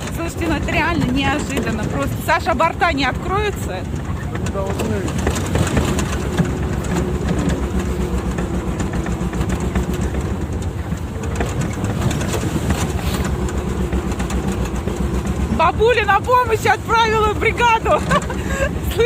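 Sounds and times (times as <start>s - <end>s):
tractor diesel engine running: 0.0s - 19.0s
trailer rattling and clattering: 0.0s - 19.0s.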